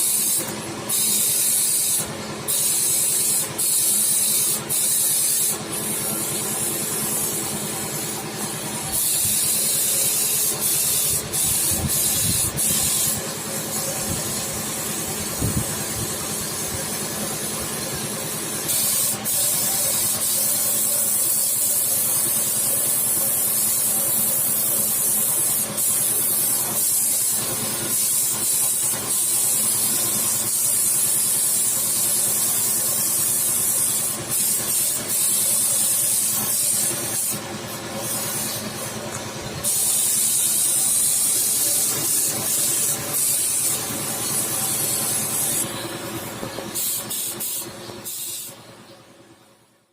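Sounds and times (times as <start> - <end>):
paint spray gun hissing: 0.0 - 48.7.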